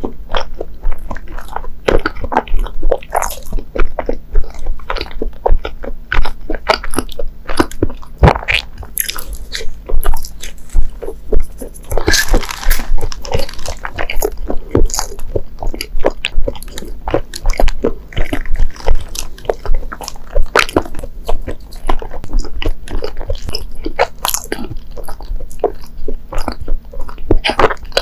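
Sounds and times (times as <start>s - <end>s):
chewing with mouth clicks: 0.0s - 28.0s.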